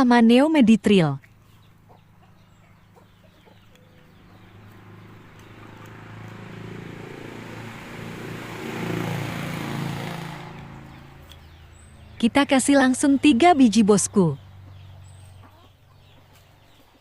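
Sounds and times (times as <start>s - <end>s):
motor vehicle passing: 1.2s - 17.0s.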